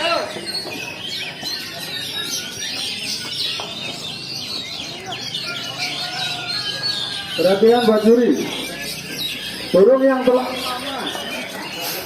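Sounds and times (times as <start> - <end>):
songbirds chirping and whistling: 0.0 - 12.0.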